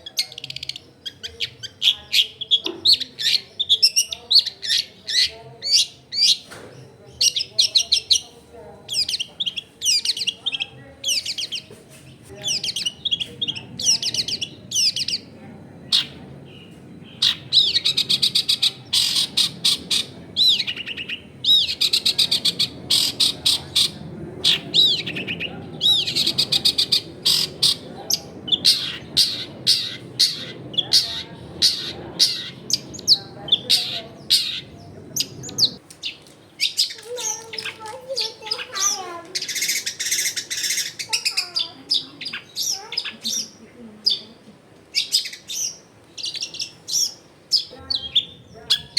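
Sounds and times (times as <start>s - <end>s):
bird singing chattering phrases: 0.0s - 48.9s.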